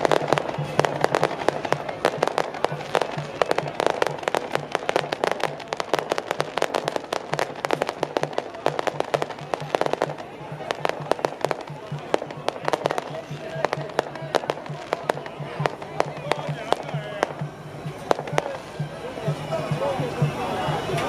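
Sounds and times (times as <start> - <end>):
firecrackers popping: 0.0 - 20.3.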